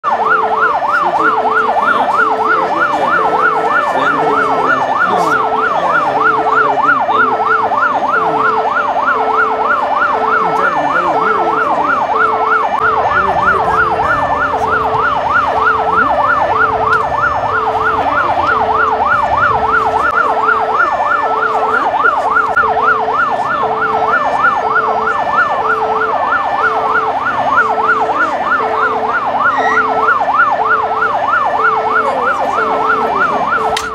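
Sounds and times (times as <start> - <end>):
siren yelping: 0.0 - 33.9
beeping tone: 0.1 - 33.9.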